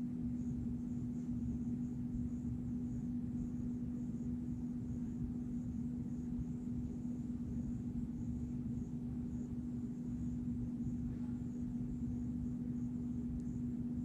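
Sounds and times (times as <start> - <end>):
constant low rumble: 0.0 - 14.0
steady low hum: 0.0 - 14.0.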